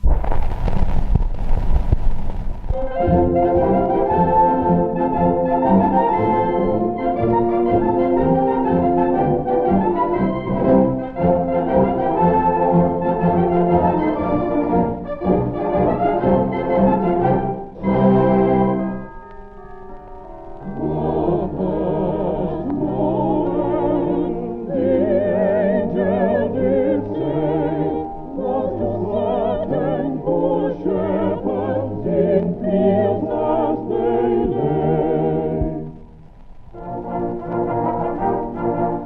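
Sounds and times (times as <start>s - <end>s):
muffled old-time song with vibrato: 2.8s - 39.0s.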